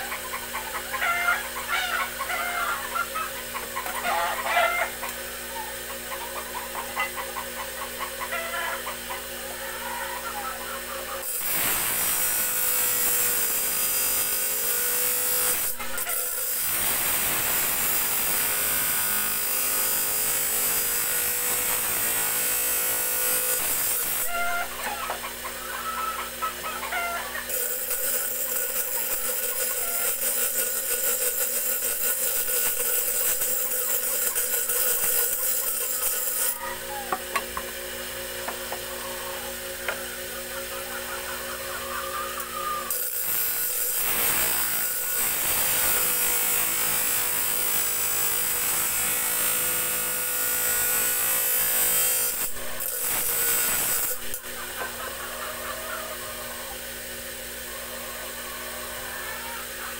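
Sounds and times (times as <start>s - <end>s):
blade scraping on grinding wheel: 0.0s - 40.8s, 41.6s - 57.7s
grinder motor humming: 0.0s - 59.9s.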